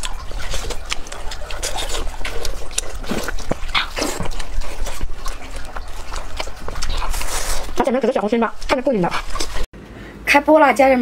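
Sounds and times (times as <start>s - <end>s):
wet chewing and lip-smacking: 0.0s - 9.7s.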